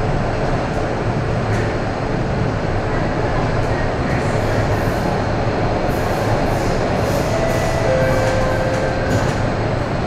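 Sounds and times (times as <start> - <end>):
subway train rumbling in tunnel: 0.0 - 10.0.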